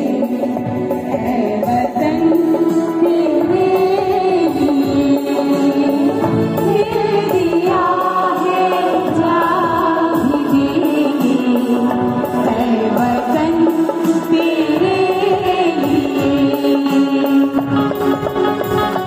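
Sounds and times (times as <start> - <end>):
mixed choir singing: 0.0 - 16.9
harmonium: 0.0 - 19.0.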